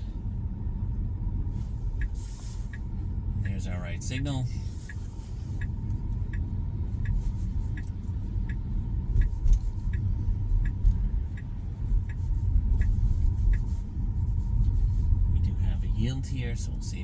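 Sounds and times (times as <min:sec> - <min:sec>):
turn signal ticking: 0:00.0 - 0:17.0.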